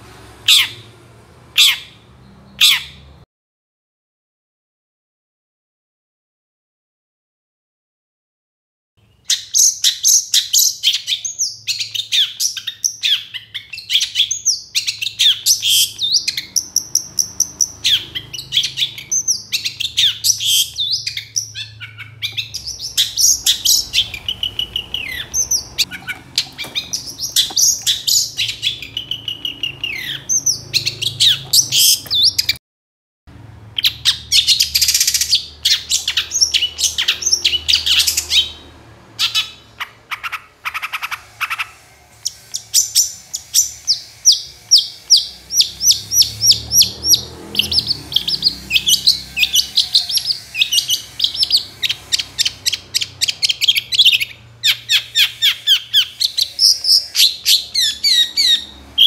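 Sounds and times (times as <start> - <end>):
bird singing chirps and trills: 9.0 - 32.6, 33.8 - 59.0.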